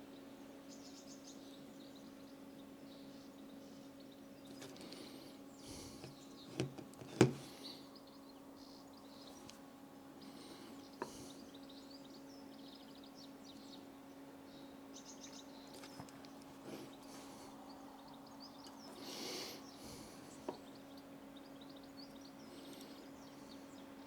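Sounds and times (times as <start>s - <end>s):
birds chirping: 0.8s - 24.0s.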